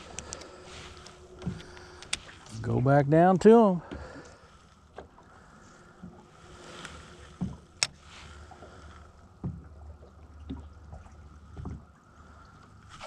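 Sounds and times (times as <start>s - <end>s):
boat engine low rumble: 0.0s - 13.0s
faint steady hum: 0.0s - 13.0s.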